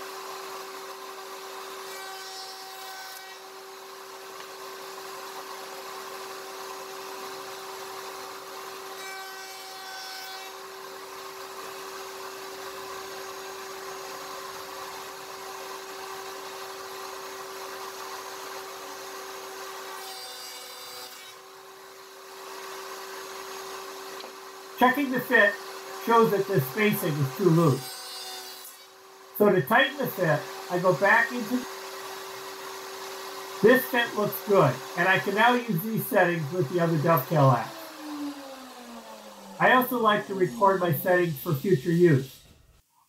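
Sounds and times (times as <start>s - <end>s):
router bit cutting wood: 0.0s - 42.6s
router motor humming: 0.0s - 42.7s.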